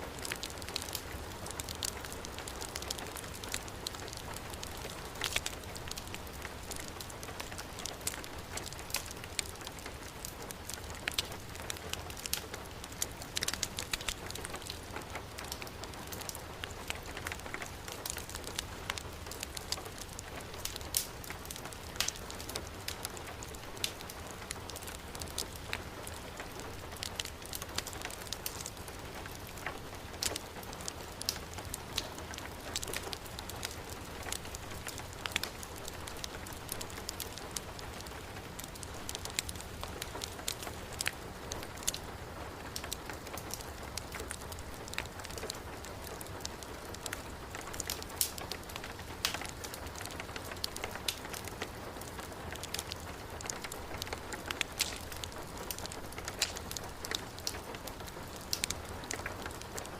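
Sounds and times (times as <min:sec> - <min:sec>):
wood fire crackling and popping: 0:00.0 - 0:59.9
heavy rain falling: 0:00.1 - 0:59.9.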